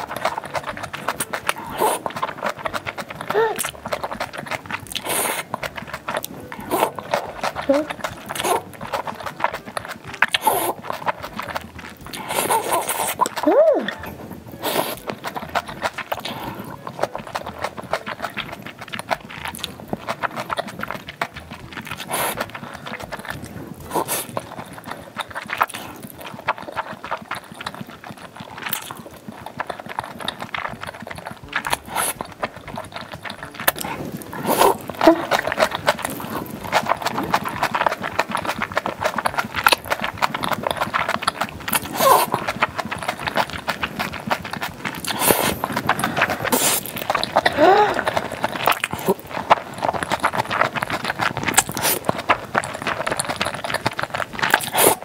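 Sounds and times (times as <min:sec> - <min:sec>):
wet chewing and smacking: 0:00.0 - 0:55.0.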